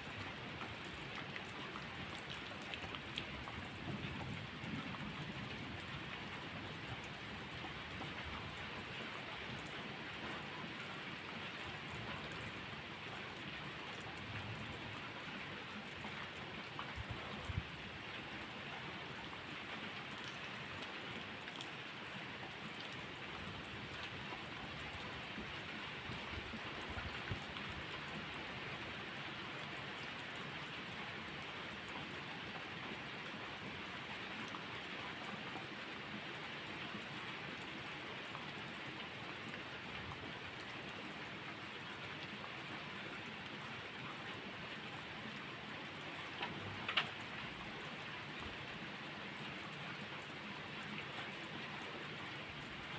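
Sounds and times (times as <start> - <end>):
steady rain hiss: 0.2 - 52.9.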